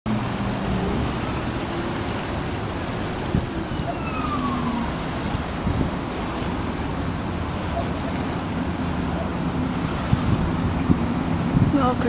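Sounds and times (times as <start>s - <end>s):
fast-flowing river: 0.1s - 12.0s
wind buffeting the microphone: 0.1s - 12.0s.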